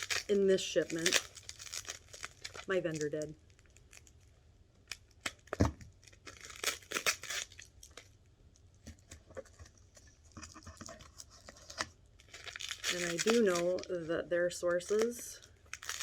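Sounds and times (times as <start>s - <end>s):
wrapping crinkling and tearing: 0.0s - 16.0s.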